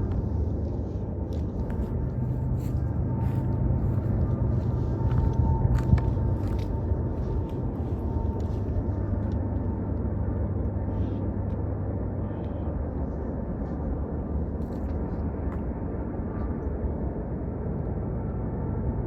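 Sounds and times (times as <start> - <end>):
distant low droning hum: 0.0 - 19.0.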